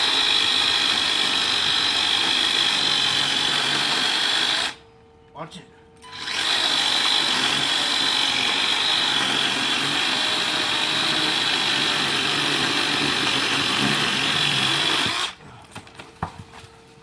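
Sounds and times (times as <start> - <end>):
cordless chainsaw whining: 0.0 - 4.8, 6.0 - 15.4.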